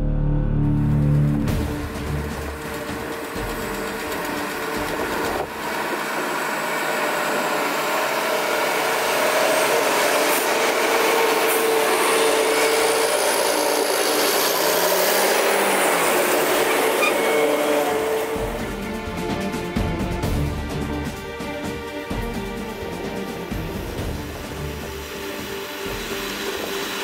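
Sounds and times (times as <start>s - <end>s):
forage harvester working: 1.3s - 27.0s.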